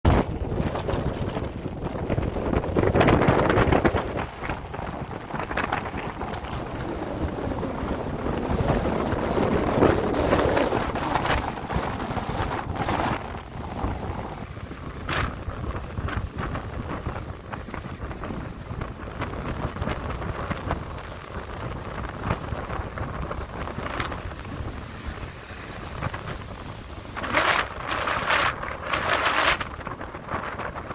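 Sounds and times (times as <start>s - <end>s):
strong wind buffeting microphone: 0.0s - 30.9s
waves breaking on rocky shore: 0.1s - 30.9s.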